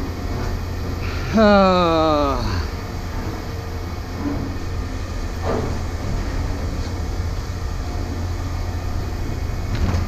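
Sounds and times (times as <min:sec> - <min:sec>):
heavy engine rumbling: 0:00.0 - 0:10.0.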